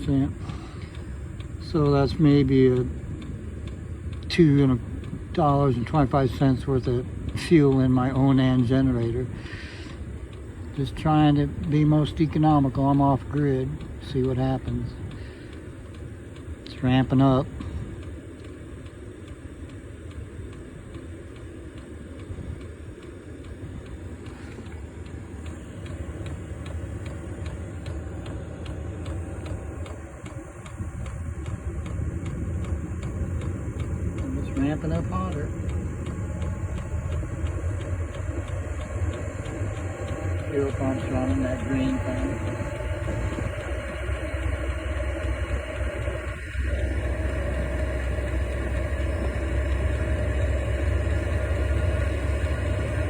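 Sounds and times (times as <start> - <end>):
fuel pump ticking: 0.0 - 53.0
heater fan and burner rumble: 0.0 - 53.0.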